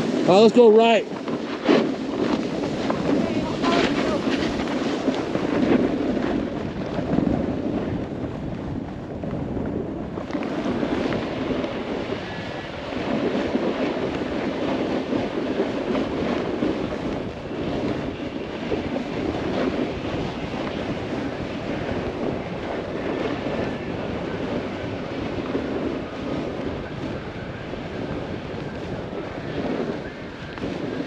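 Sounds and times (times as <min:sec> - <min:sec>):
snowboard sliding over snow: 0:00.0 - 0:31.0
wind rushing over microphone: 0:00.0 - 0:31.0.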